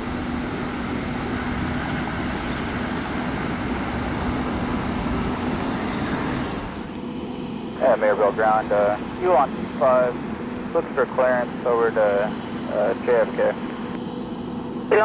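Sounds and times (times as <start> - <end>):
jet aircraft engines droning: 0.0 - 15.0.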